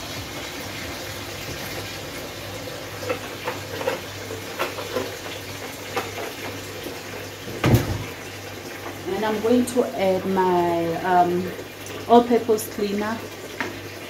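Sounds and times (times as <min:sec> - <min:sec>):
tap water running into basin: 0:00.0 - 0:14.0.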